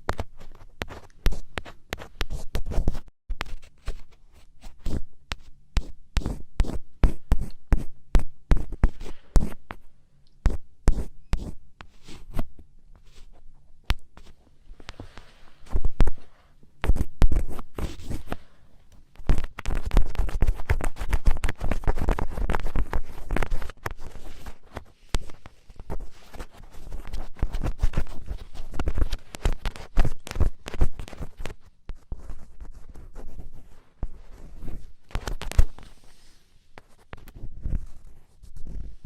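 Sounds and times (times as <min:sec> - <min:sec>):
ear pick scratching microphone: 0:00.0 - 0:09.8, 0:10.4 - 0:13.4, 0:14.1 - 0:18.6, 0:19.2 - 0:39.0.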